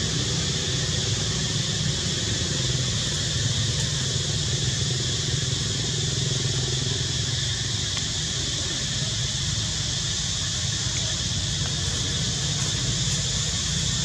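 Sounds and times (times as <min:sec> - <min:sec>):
engine rumbling: 0:00.0 - 0:14.0
high hiss: 0:00.0 - 0:14.0.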